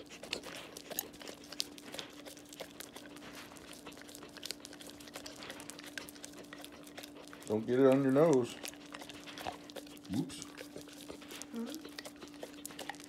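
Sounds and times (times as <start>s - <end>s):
dog licking and smacking: 0.0s - 13.0s
steady low hum: 0.0s - 13.0s.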